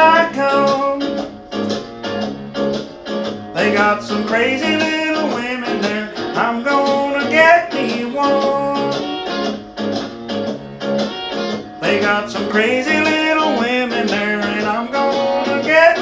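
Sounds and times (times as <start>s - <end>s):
country acoustic guitar music: 0.0s - 16.0s.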